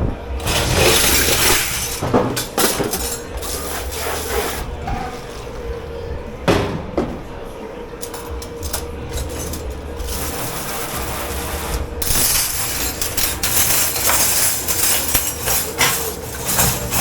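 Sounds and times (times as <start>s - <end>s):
dishes and pans clattering: 0.0s - 5.7s, 6.4s - 7.4s, 8.0s - 17.0s
machine hum: 0.0s - 17.0s.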